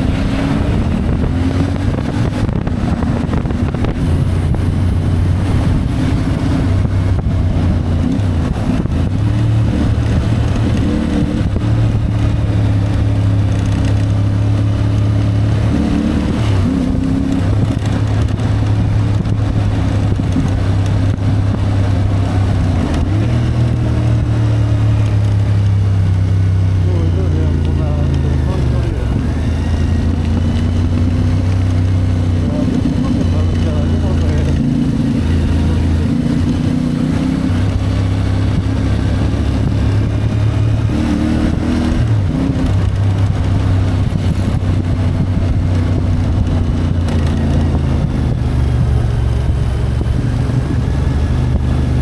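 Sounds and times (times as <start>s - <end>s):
wind on microphone: 0.0s - 26.8s, 27.7s - 52.0s
motorcycle engine running: 0.0s - 52.0s.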